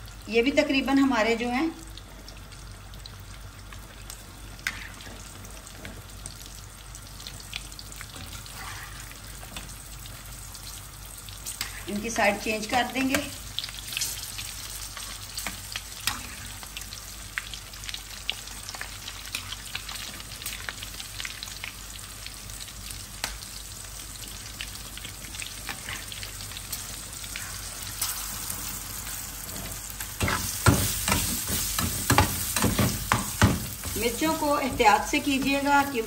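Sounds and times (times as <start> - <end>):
chillies sizzling in hot oil: 0.0 - 36.0
crackles and pops of frying: 0.0 - 36.0
food deep-frying in oil: 0.0 - 36.0.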